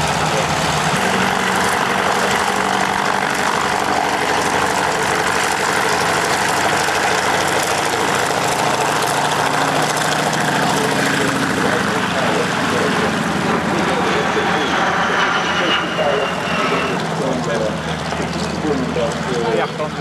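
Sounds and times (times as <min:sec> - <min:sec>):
aircraft engines running at low power: 0:00.0 - 0:20.0.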